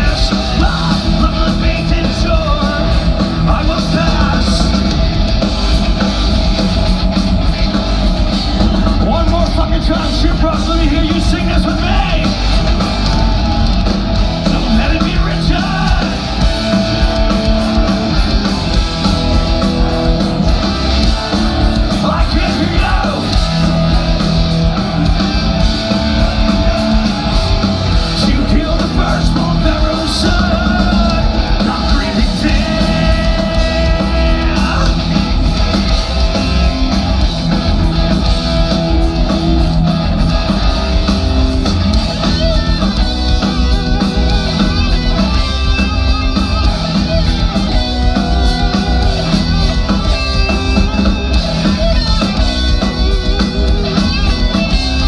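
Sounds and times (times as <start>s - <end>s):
singer shouting: 0.0s - 4.9s, 8.6s - 17.0s, 19.1s - 37.2s, 41.9s - 55.0s
live heavy metal band: 0.0s - 55.0s.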